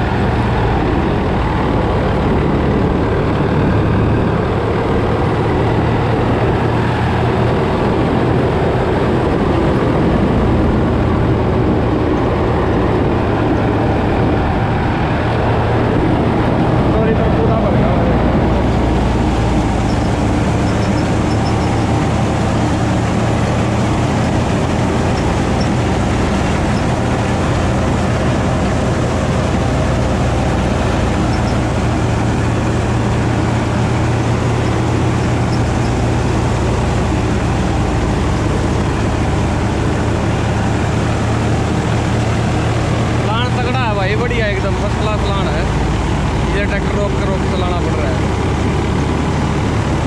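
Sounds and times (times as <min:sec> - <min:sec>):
straw reaper machine drone: 0:00.0 - 0:50.0
tractor diesel engine running: 0:00.0 - 0:50.0.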